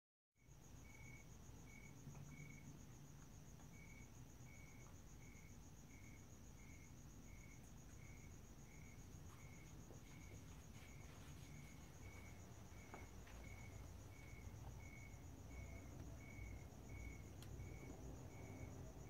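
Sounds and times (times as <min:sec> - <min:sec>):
crickets trilling: 0:00.4 - 0:19.0
low cricket chirp: 0:00.4 - 0:19.0
low background hum: 0:00.5 - 0:19.0.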